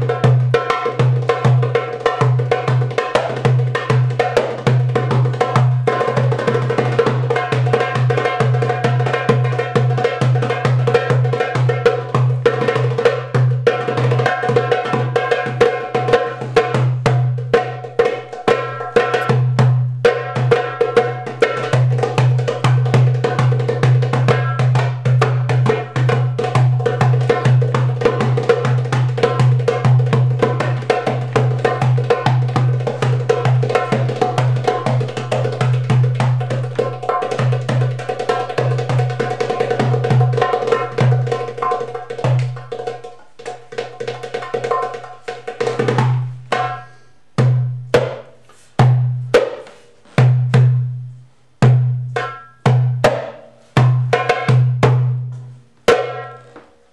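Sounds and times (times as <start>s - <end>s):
djembe played with hands: 0.0s - 56.8s.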